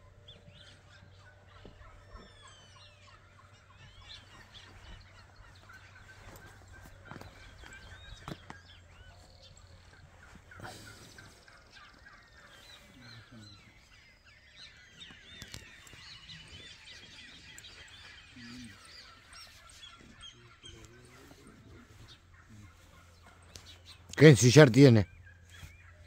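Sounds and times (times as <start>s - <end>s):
low honk-like bird calls: 0.0s - 24.2s
birds chirping: 0.0s - 26.0s.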